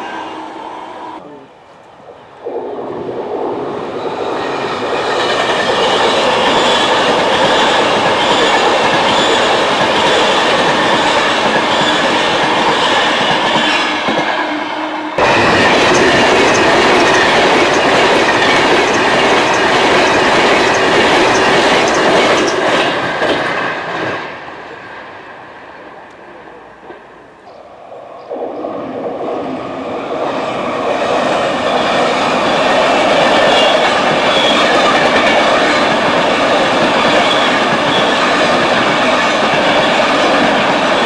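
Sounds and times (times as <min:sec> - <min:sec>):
train passing at speed: 0:00.0 - 0:41.0.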